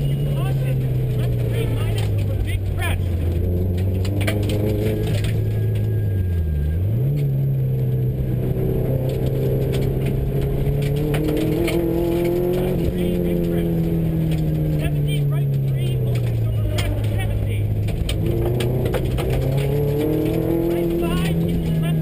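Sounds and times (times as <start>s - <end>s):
car engine from inside cabin: 0.0s - 22.0s
gravel road noise: 0.0s - 22.0s
rattles and knocks: 1.0s - 6.0s, 8.9s - 22.0s.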